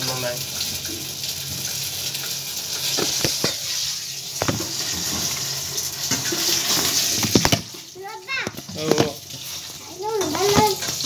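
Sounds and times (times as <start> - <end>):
pan sizzling: 0.0 - 11.0.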